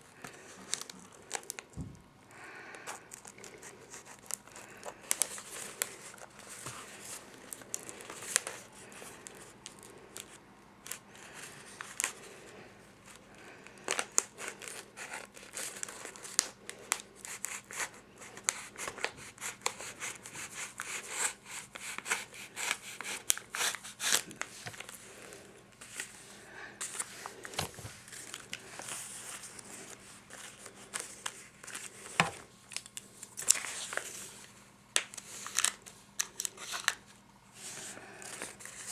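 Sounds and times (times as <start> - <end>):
paper crinkling and rustling: 0.0 - 2.0, 2.8 - 38.9.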